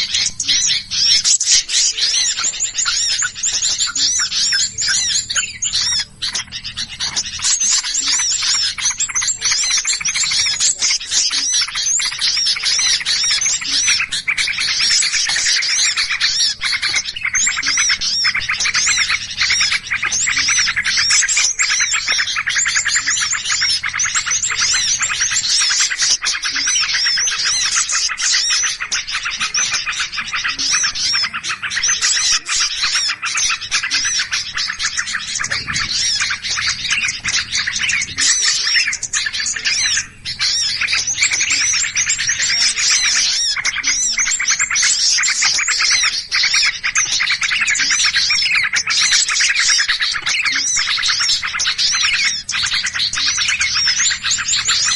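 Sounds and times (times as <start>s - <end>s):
songbirds chirping and scolding: 0.0s - 54.9s.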